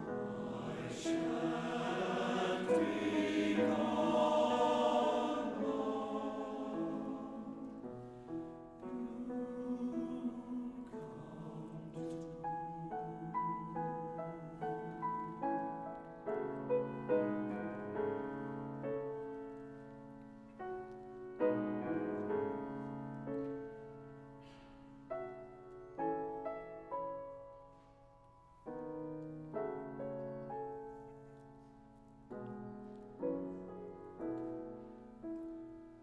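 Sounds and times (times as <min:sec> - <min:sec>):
slow gentle piano: 0:00.0 - 0:36.0.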